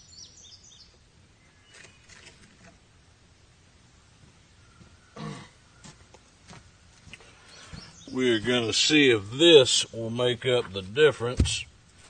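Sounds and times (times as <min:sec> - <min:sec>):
bird chirping: 0:00.0 - 0:03.2, 0:03.8 - 0:11.8.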